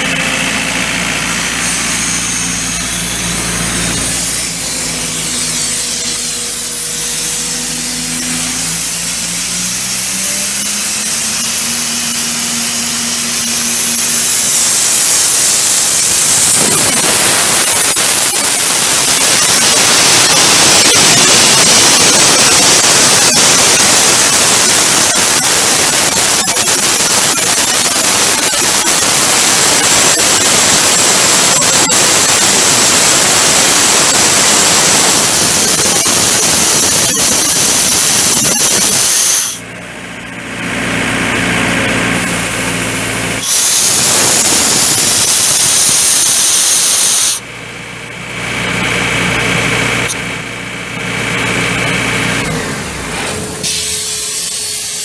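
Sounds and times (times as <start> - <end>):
compressed air hissing: 0.0 - 39.6, 42.0 - 47.4, 53.1 - 55.0
diesel engine running: 0.0 - 46.8, 47.4 - 55.0.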